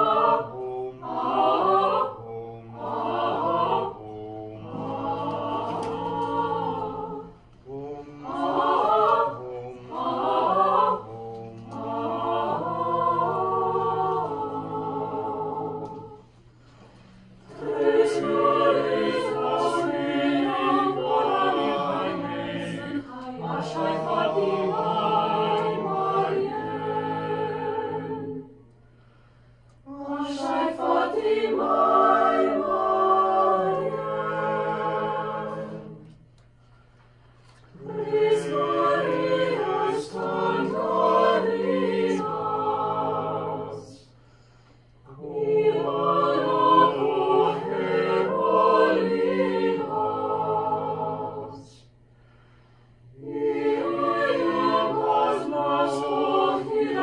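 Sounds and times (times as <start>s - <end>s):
choir singing a cappella: 0.0s - 36.3s, 37.5s - 57.0s.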